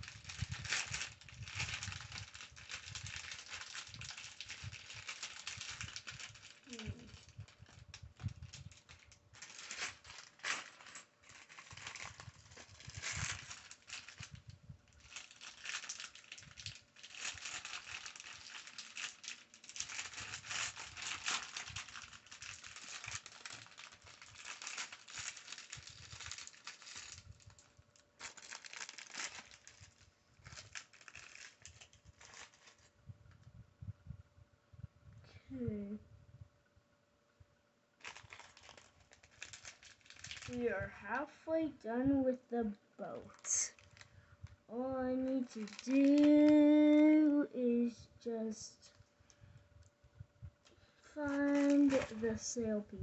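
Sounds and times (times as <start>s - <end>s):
plastic bag crinkling: 0.0s - 33.4s, 38.0s - 41.6s, 43.0s - 47.8s, 50.6s - 53.0s.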